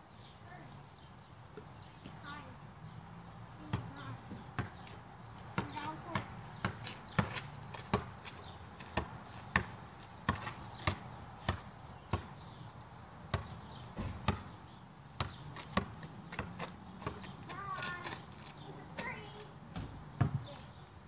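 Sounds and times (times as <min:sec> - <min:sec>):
basketball bouncing on hard ground: 0:03.5 - 0:20.7.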